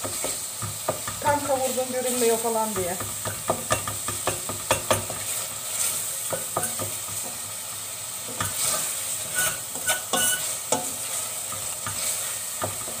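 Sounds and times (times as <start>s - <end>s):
meat and vegetables sizzling: 0.0s - 13.0s.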